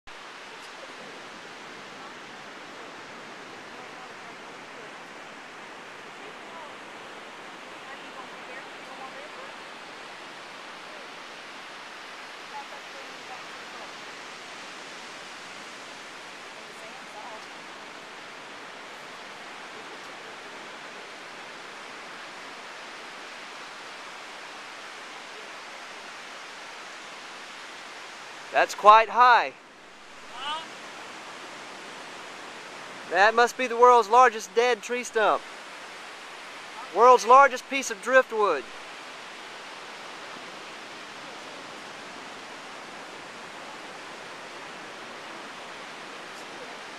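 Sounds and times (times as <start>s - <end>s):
distant ocean surf: 0.1s - 46.9s.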